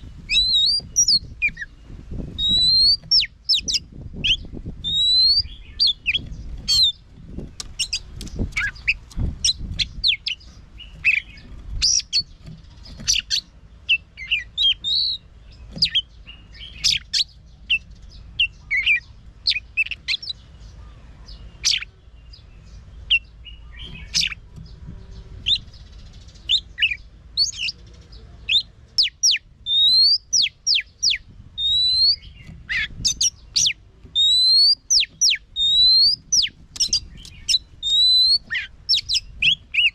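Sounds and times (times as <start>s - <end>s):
bird singing whistles and chirps: 0.0s - 7.0s, 7.8s - 39.9s.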